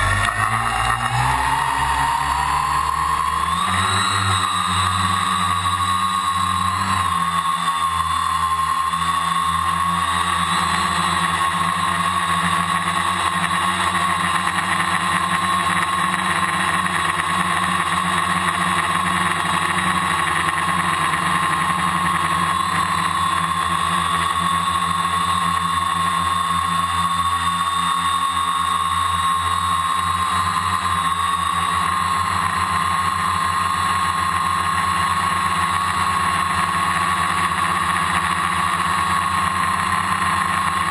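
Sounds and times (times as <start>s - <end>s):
drone motors whining: 0.0s - 40.9s.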